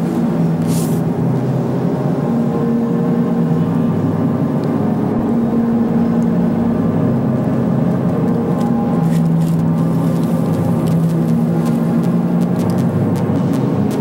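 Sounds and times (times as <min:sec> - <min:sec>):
low droning background music: 0:00.0 - 0:14.0.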